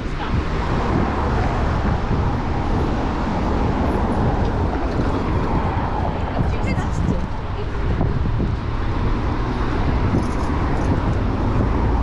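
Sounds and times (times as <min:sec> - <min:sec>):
city road traffic: 0:00.0 - 0:12.0
wind rumbling on microphone: 0:00.0 - 0:12.0.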